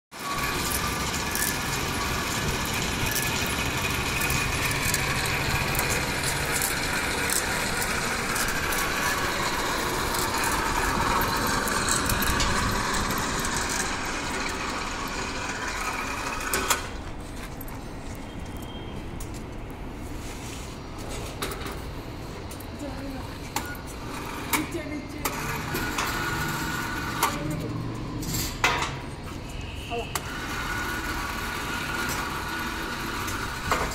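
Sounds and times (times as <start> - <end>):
electric hoist winch running: 0.2 - 17.7, 22.1 - 33.9.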